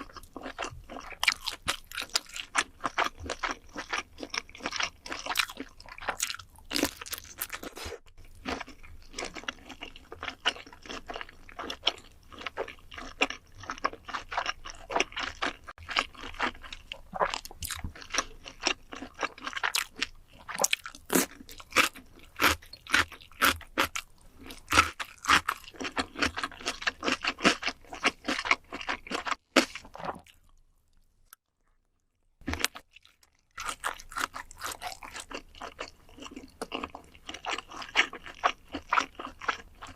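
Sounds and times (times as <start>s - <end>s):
person crunching and chewing: 0.0s - 30.6s, 32.4s - 39.9s.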